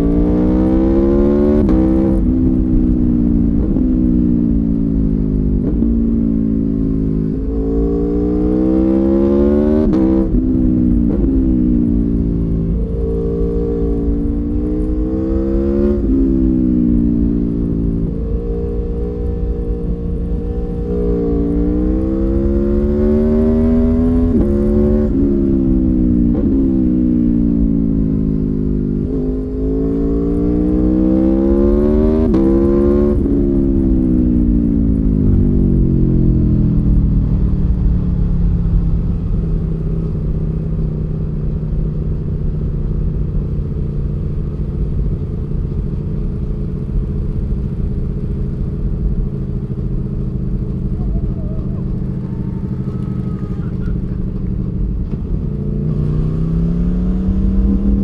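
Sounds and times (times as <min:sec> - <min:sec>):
motorcycle engine revving: 0:00.0 - 0:58.0
road rumble: 0:00.0 - 0:58.0
wind: 0:00.0 - 0:58.0.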